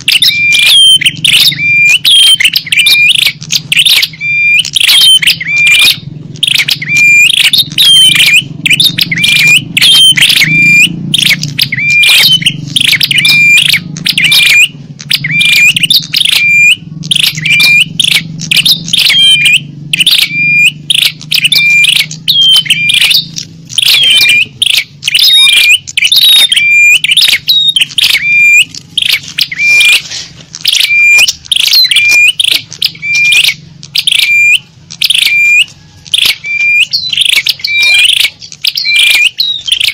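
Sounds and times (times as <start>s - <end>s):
rapid high bird chirps: 0.0s - 39.9s.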